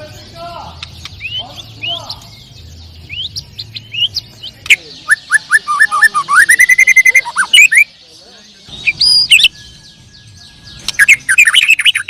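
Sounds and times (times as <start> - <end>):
bird singing whistles and trills: 0.0 - 12.0.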